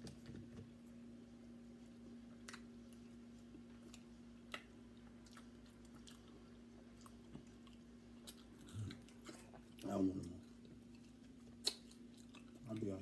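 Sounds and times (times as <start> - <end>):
people chewing: 2.4 - 13.0.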